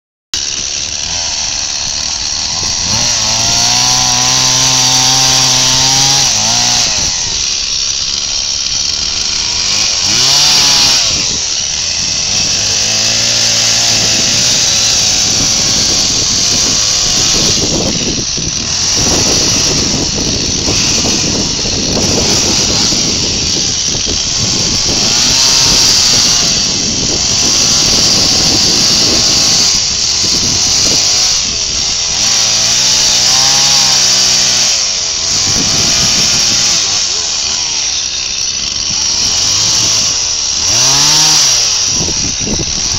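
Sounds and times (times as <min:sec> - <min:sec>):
chainsaw cutting wood: 0:00.4 - 0:42.9.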